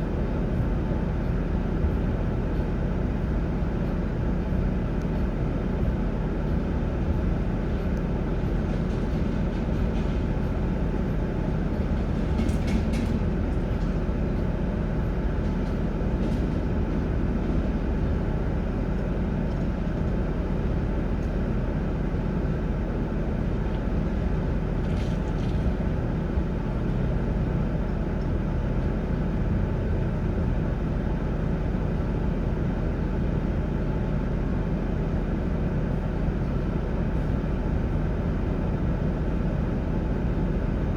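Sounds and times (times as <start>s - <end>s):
vehicle engine rumble: 0.0s - 40.9s.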